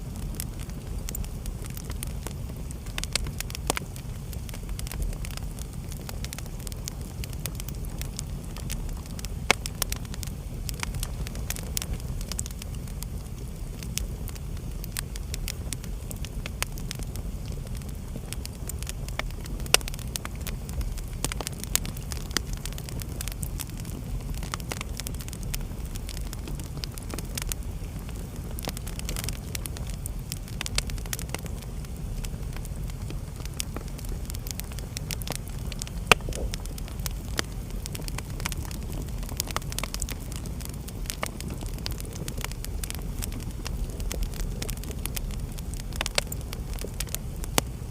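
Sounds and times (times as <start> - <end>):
flames rumbling: 0.0 - 47.9
logs crackling and popping: 0.0 - 47.9.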